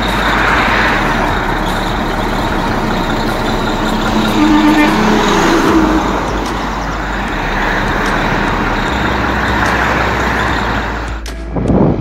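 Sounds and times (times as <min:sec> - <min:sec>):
heavy truck engine: 0:00.0 - 0:12.0
tyre and road traffic noise: 0:00.0 - 0:12.0.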